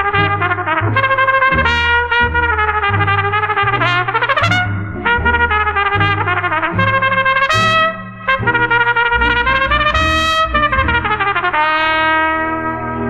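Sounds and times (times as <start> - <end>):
bass line: 0.0 - 13.0
trumpet leading brass ensemble: 0.0 - 13.0.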